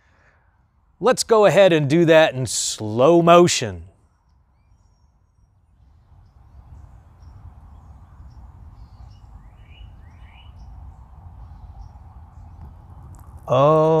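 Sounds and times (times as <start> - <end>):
birds chirping: 1.2 - 14.0.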